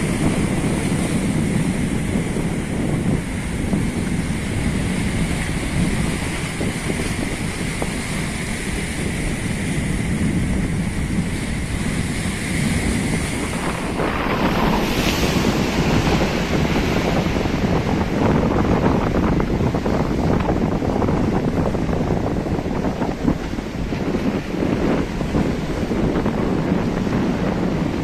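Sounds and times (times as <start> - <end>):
surf washing over rocks: 0.0 - 28.0
wind buffeting microphone: 0.0 - 28.0.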